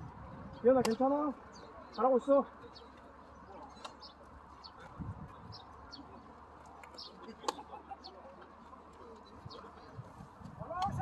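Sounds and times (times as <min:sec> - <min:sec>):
open-air background noise: 0:00.0 - 0:11.0.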